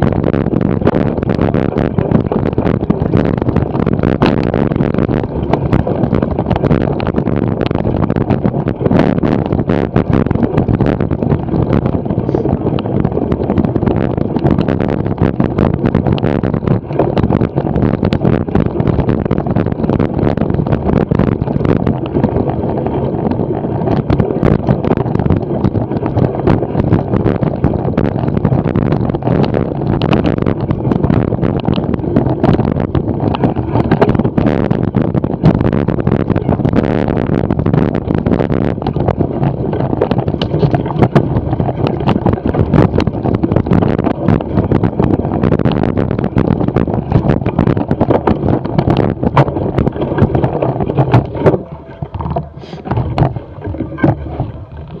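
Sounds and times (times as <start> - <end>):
bicycle tyre noise: 0.0 - 55.0
bike knocking and rattling: 0.0 - 55.0
wind on microphone: 0.0 - 55.0.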